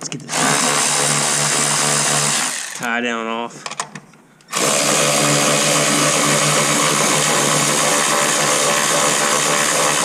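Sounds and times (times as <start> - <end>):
cordless power tool running: 0.3 - 2.9, 4.5 - 10.0.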